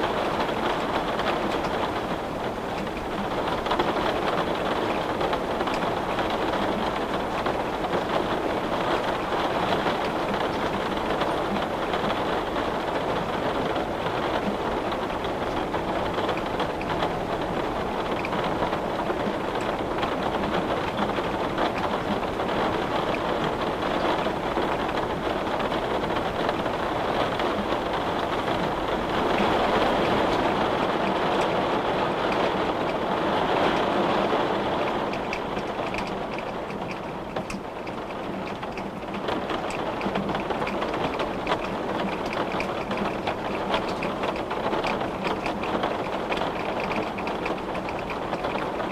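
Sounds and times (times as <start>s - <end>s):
rain falling at a window: 0.0s - 48.9s.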